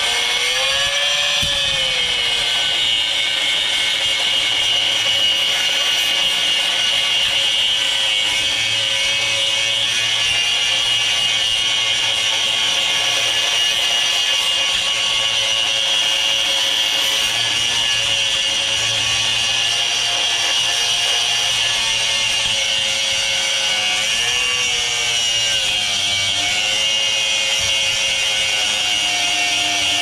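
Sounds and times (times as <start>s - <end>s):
angle grinder cutting metal: 0.0s - 30.0s.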